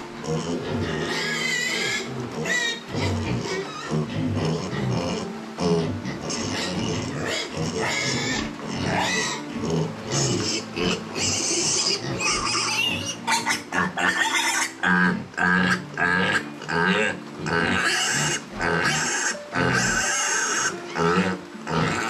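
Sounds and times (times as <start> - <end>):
piglet squealing: 0.3 - 22.0.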